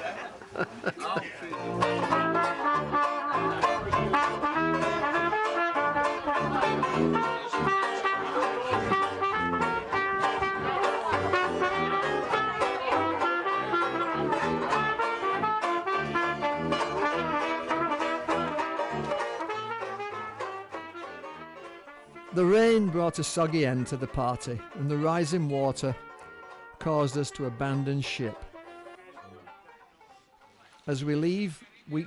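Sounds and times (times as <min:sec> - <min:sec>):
tuba bass line: 0:01.5 - 0:28.9
jazz band playing: 0:01.5 - 0:29.0
trumpet melody: 0:01.6 - 0:29.6.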